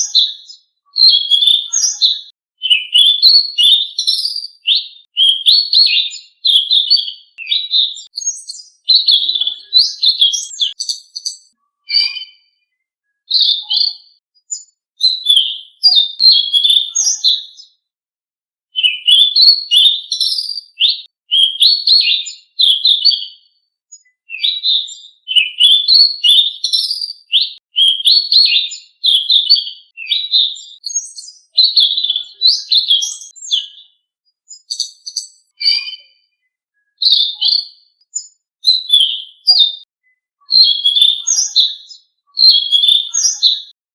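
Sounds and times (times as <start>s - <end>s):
songbird chirpy whistled phrases: 0.0s - 17.8s, 18.7s - 43.8s.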